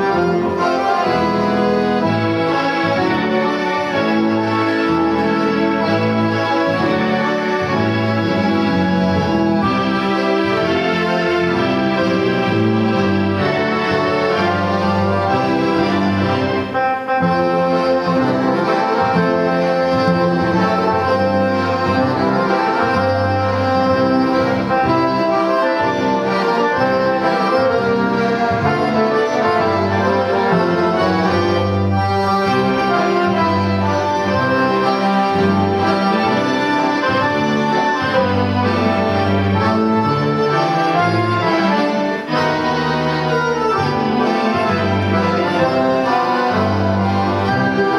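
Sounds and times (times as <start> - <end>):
accordion orchestra playing: 0.0 - 47.9.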